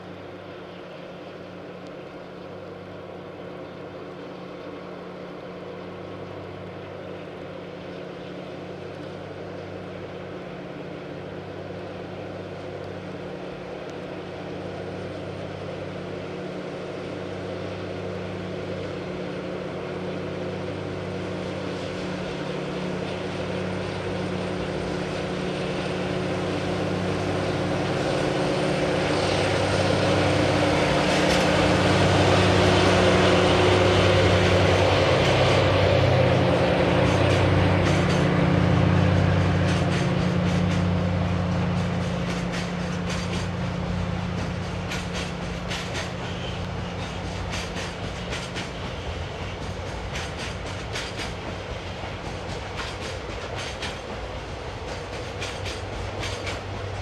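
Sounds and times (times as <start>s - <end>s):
locomotive engine drone: 0.0s - 57.0s
train wheels rumbling past: 0.0s - 57.0s.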